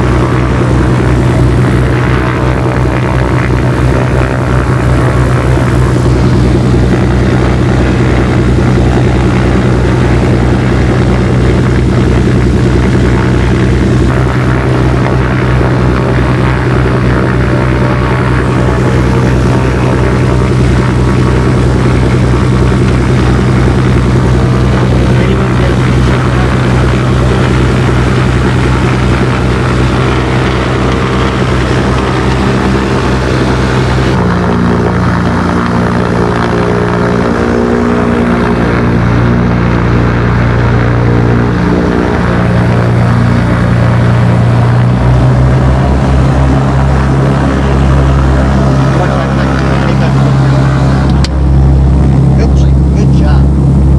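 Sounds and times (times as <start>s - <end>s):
aircraft engines and propellers: 0.0s - 53.9s.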